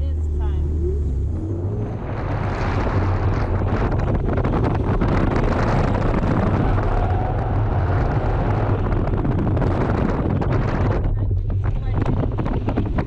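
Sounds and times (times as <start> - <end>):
car engine rumbling: 0.0 - 13.0
wind buffeting microphone: 0.0 - 13.0.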